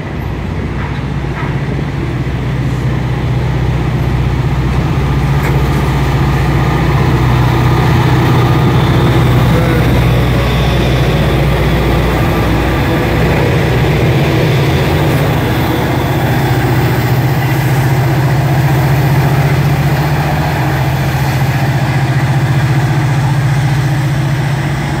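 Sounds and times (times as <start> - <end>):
diesel locomotives passing: 0.0 - 25.0.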